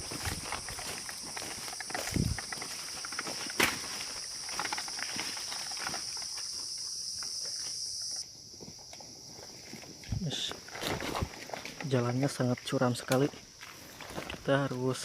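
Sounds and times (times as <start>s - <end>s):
high insect buzz: 0.0s - 12.0s
footsteps crunching through undergrowth: 0.0s - 15.0s.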